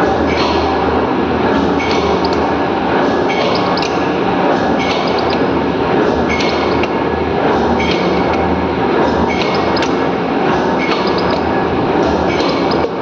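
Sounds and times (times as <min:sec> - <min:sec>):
factory machinery clattering: 0:00.0 - 0:13.0.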